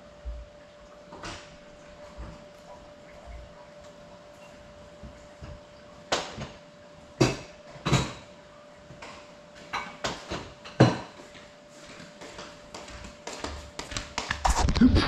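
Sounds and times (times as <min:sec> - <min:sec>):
faint steady whine: 0:00.0 - 0:14.8.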